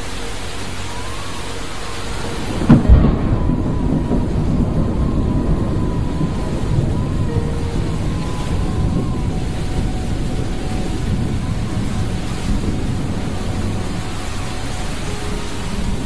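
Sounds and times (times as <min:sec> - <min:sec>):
heavy rain lashing trees: 0:00.0 - 0:16.0
strong wind: 0:00.0 - 0:16.0.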